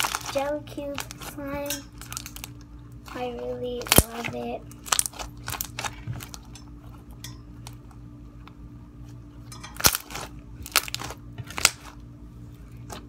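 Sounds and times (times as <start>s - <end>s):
slime squishing crackles: 0.0s - 7.9s, 9.8s - 13.0s
faint hum: 0.0s - 13.0s.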